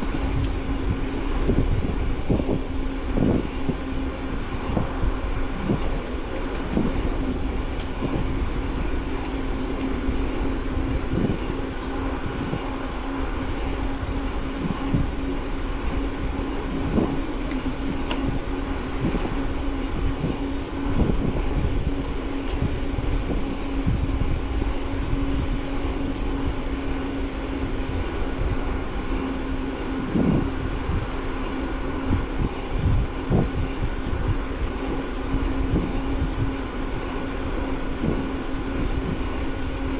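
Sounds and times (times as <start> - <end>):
bike tyre rumble: 0.0 - 39.9
constant hum: 0.0 - 39.9.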